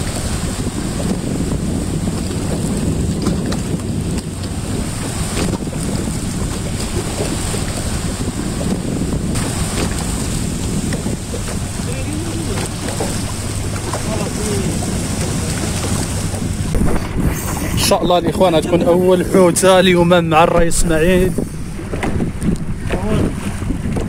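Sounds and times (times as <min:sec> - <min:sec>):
boat motor running: 0:00.0 - 0:24.0
water rushing past hull: 0:00.0 - 0:24.0
wind buffeting microphone: 0:00.0 - 0:24.0.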